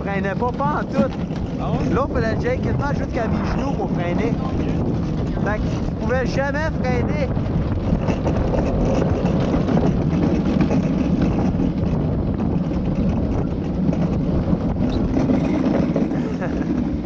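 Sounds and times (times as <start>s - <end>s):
wheels rolling on concrete: 0.0s - 17.0s.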